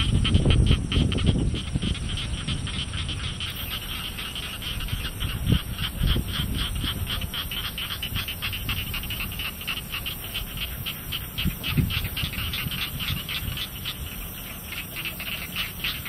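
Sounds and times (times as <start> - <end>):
frogs pulsed calling: 0.0 - 16.0
high-pitched insect trill: 0.0 - 16.0.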